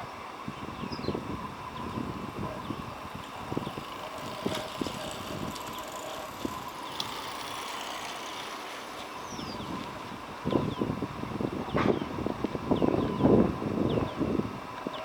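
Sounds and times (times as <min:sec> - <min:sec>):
low outdoor noise: 0:00.0 - 0:15.0.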